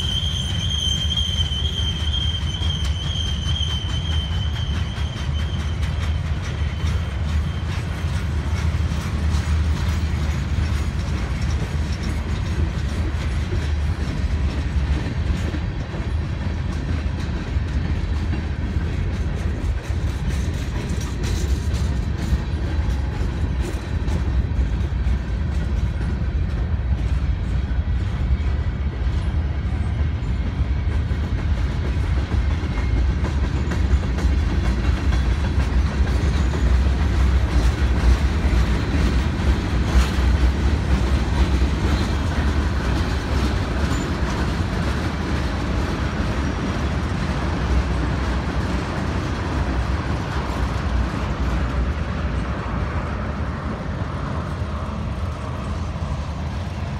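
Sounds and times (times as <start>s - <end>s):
rail joint clicks: 0.0s - 56.9s
train wheels rumbling on rail: 0.0s - 56.9s.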